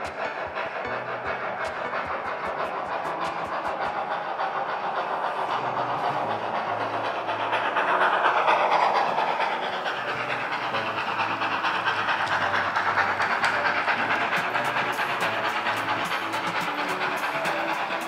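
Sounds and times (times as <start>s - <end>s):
model steam locomotive chuffing: 0.0s - 18.0s
wheels clicking over track: 0.0s - 18.0s.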